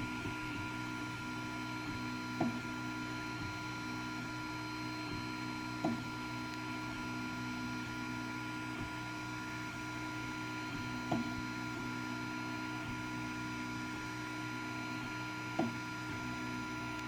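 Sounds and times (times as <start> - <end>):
printer stepper motors humming: 0.0 - 17.0.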